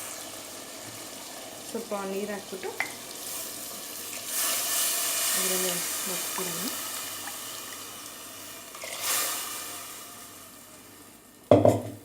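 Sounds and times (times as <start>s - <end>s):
food sizzling in hot oil: 0.0s - 11.7s.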